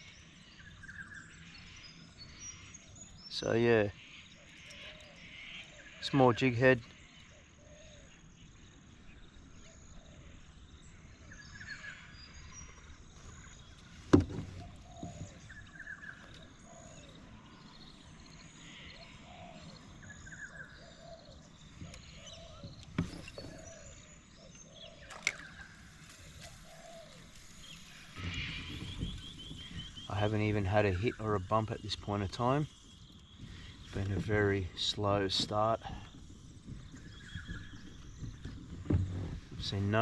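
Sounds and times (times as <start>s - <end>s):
small birds calling: 0.0s - 40.0s.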